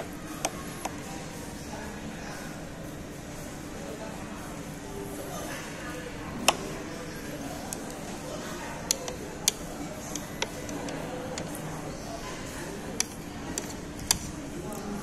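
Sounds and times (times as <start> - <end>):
murmur of restaurant chatter: 0.0 - 15.0.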